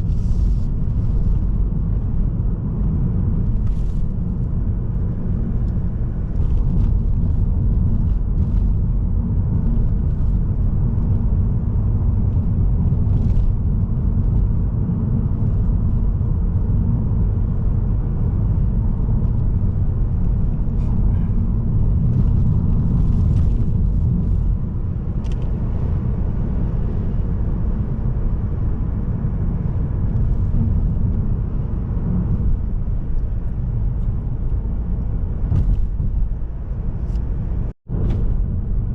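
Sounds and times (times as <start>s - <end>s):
diesel car engine rumble: 0.0s - 38.9s
tyres on the road: 0.0s - 38.9s.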